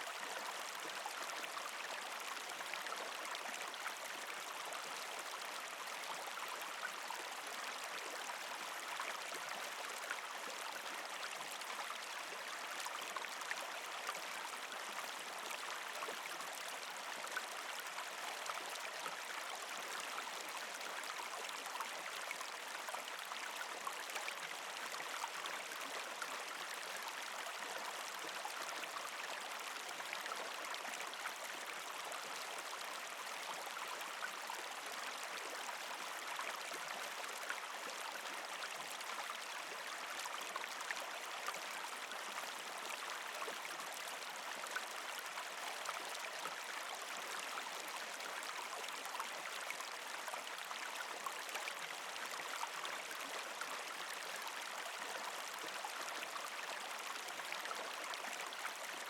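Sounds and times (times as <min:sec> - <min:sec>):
creek trickling over rocks: 0:00.0 - 0:59.0.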